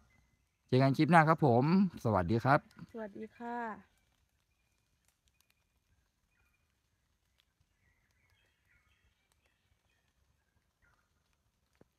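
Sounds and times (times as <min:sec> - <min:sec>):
faint high bird chirps: 0:00.0 - 0:11.7.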